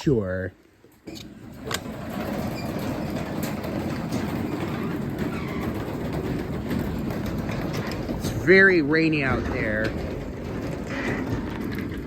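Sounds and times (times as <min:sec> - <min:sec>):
rollers clattering: 0:00.8 - 0:12.0
garage door opener rumbling: 0:00.9 - 0:12.0.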